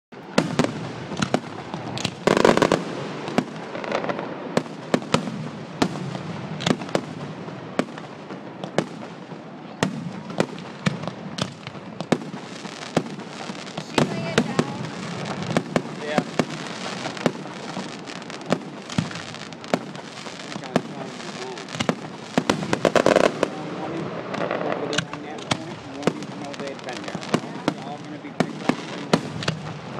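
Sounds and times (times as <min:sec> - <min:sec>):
fireworks bangs and crackling: 0:00.1 - 0:29.9.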